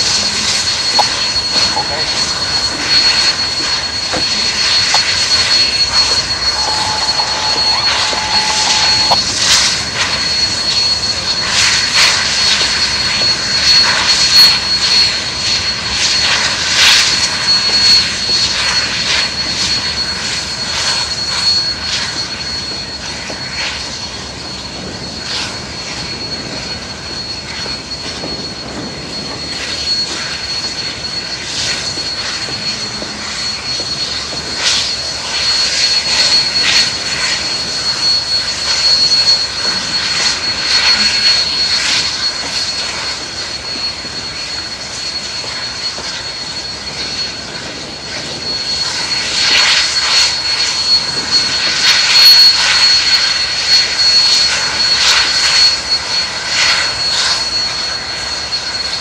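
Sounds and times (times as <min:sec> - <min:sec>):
brief steady tone: 0:00.0 - 0:59.0
thin high whine: 0:00.0 - 0:59.0.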